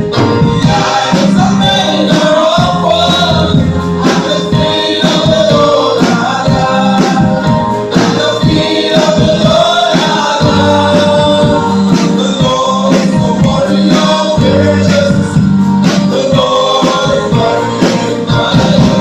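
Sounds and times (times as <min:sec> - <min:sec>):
drum kit: 0:00.0 - 0:19.0
gospel group singing in harmony: 0:00.0 - 0:19.0
low keyboard notes: 0:00.0 - 0:19.0.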